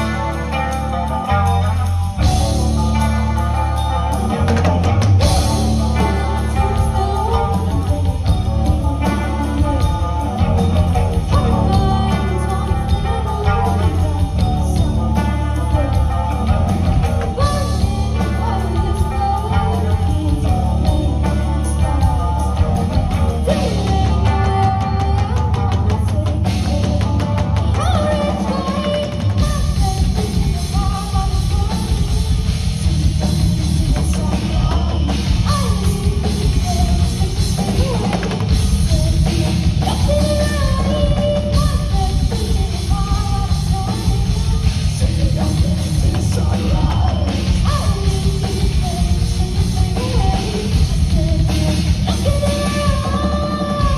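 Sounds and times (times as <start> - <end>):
bass: 0.0 - 53.9
drums: 0.0 - 53.9
guitar: 0.0 - 53.9
person singing: 0.0 - 53.9.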